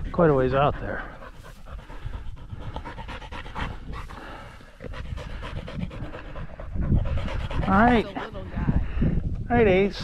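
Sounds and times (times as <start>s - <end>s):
dog panting: 0.0s - 8.8s.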